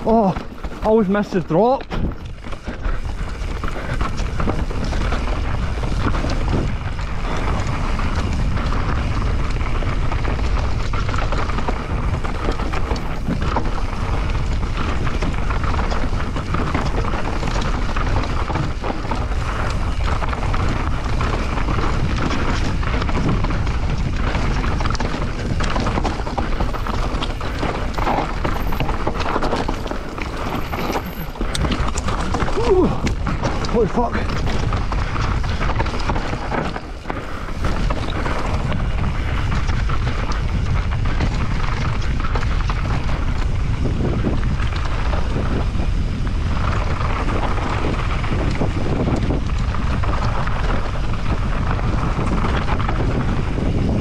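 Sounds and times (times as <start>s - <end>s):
bike knocks and rattles: 0.0s - 54.0s
tyres rolling over dirt and stones: 0.0s - 54.0s
wind buffeting microphone: 0.0s - 54.0s.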